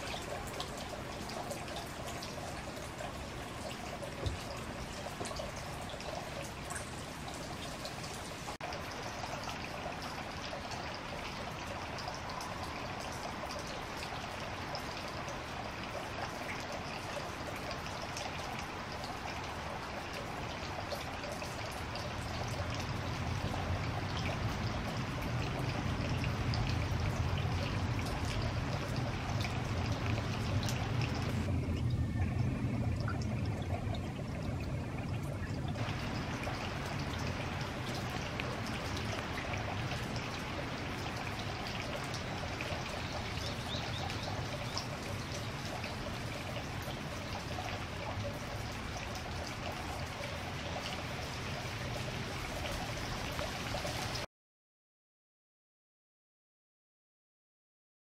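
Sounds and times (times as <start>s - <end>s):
deep pouring water: 0.0s - 54.3s
rain on gravel and puddles: 0.0s - 54.3s
water running from downspout: 0.0s - 54.3s.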